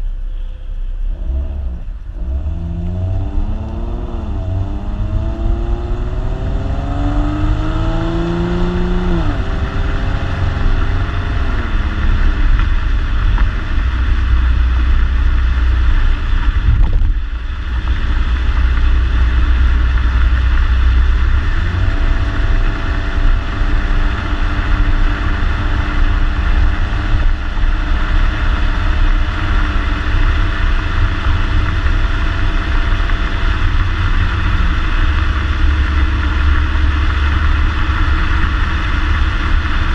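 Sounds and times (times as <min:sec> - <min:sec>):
car engine driving: 0:00.0 - 0:39.9.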